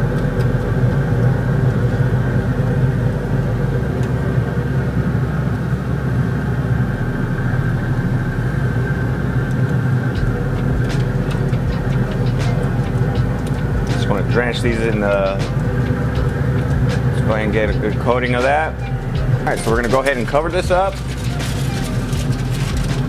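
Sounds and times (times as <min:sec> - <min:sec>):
fan mechanical hum: 0:00.0 - 0:23.0.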